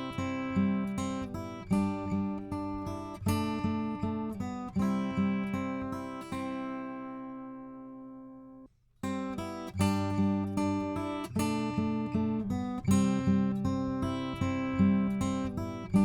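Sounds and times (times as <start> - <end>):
acoustic guitar playing chords: 0.0 - 16.0.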